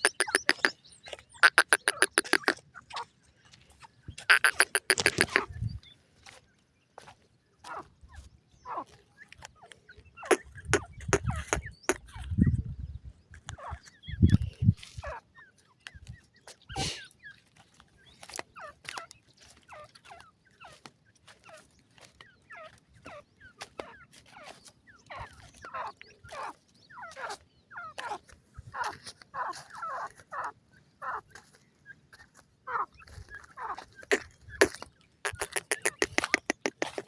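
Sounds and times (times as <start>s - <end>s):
chicks cheeping: 0.0s - 3.1s, 4.1s - 6.4s, 7.0s - 20.8s, 21.4s - 37.0s.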